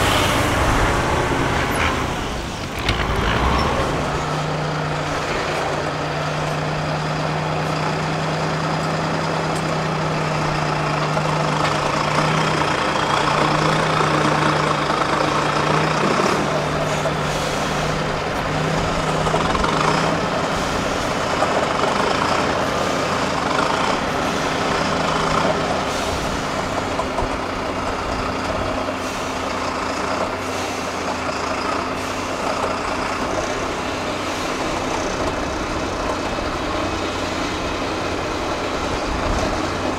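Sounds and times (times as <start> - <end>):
diesel truck engine under load: 0.0 - 39.9.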